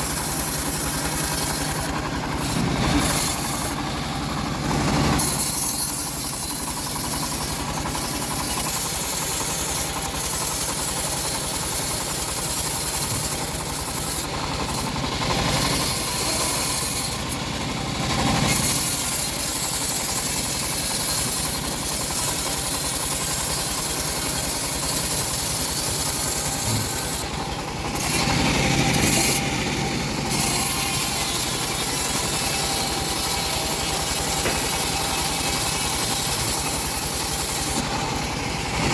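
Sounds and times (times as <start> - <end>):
bandsaw blade sawing log: 0.0 - 38.9.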